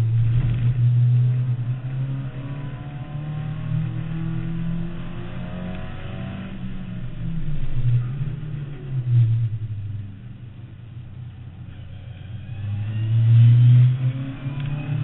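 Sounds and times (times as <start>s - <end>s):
car engine accelerating hard: 0.0s - 10.0s, 11.3s - 15.0s.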